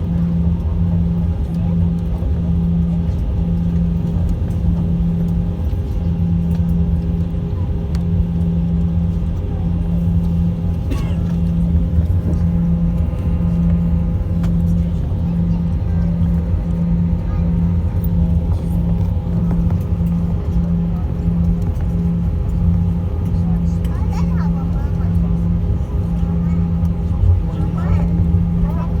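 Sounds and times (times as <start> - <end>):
jet engines rumbling: 0.0 - 29.0
low pulsing hum: 0.0 - 29.0.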